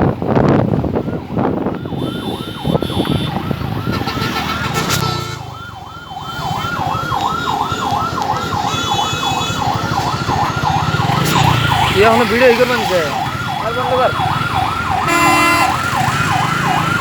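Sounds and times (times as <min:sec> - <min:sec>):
electronic yelp siren: 0:01.1 - 0:17.0.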